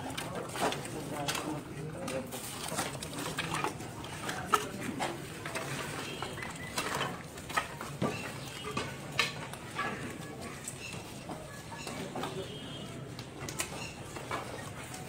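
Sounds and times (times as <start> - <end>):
hum of people moving about: 0.0 - 15.0.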